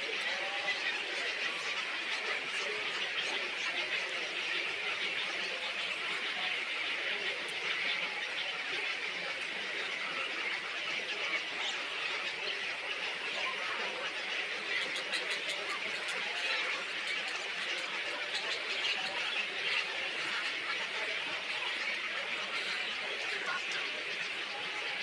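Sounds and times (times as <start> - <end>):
small birds chattering: 0.0 - 25.0.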